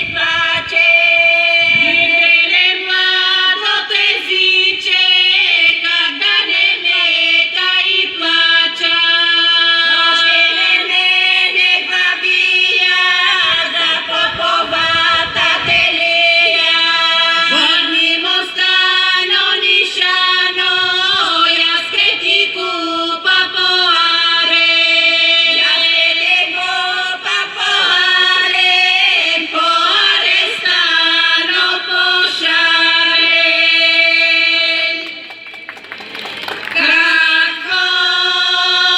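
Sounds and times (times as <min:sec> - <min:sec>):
women singing folk song: 0:00.0 - 0:35.3, 0:36.7 - 0:38.9.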